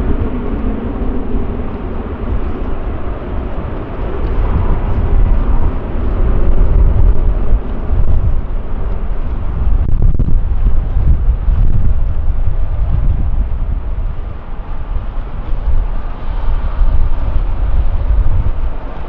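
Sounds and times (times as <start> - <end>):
airliner engines roaring: 0.0 - 19.0.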